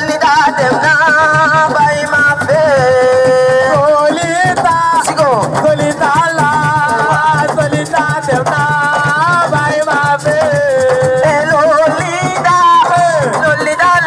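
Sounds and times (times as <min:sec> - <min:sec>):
drums: 0:00.0 - 0:14.0
shaker rattling: 0:00.0 - 0:14.0.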